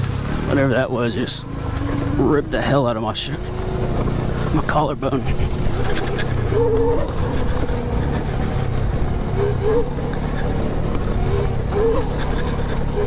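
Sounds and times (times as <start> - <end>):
wind and tyres rumble: 0.0 - 13.0.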